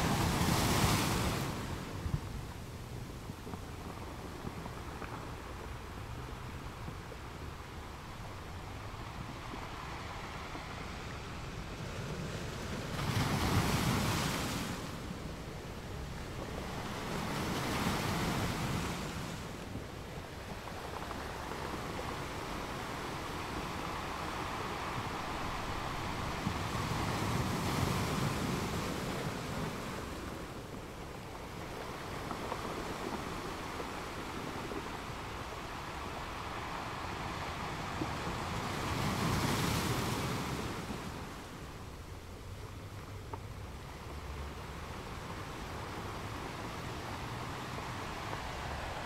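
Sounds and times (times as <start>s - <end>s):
sea waves washing in: 0.0s - 49.0s.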